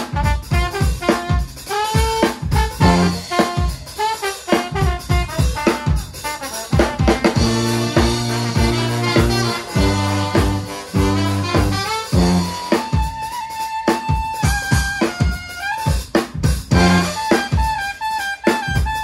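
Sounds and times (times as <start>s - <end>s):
low brass chords: 0.0s - 13.4s, 16.7s - 19.0s
brass band music: 0.0s - 19.0s
drum kit swing beat: 0.0s - 19.0s.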